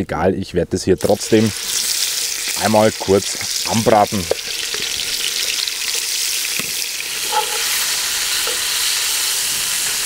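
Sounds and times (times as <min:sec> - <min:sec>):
pork sizzling in hot oil: 0:01.0 - 0:10.0.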